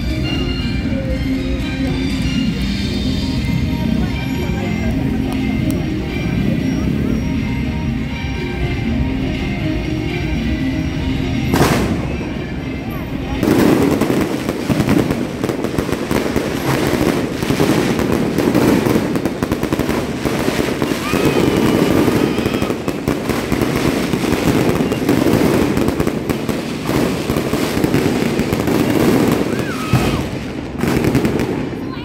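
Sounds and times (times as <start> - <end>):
fireworks crackling: 0.0 - 32.0.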